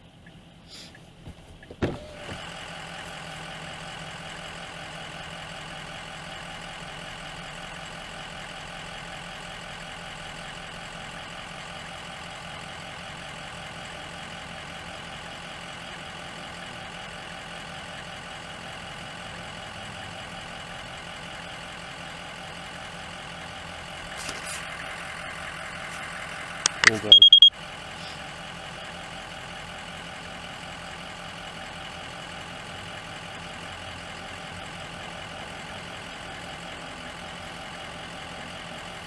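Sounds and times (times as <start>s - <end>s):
vehicle engine starting and idling: 0.0s - 39.0s.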